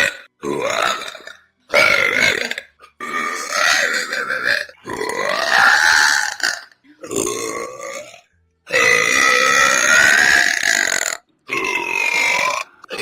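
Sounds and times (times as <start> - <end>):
woman belching: 0.0 - 13.0.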